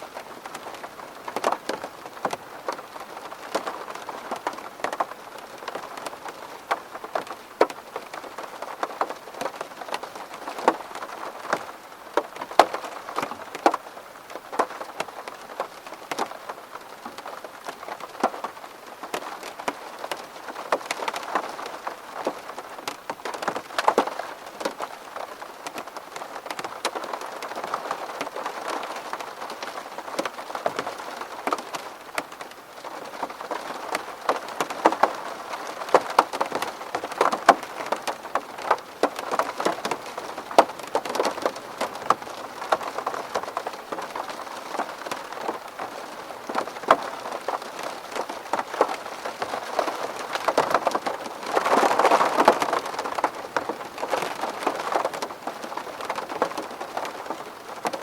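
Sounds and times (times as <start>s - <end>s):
rain pattering on window: 0.0s - 58.0s.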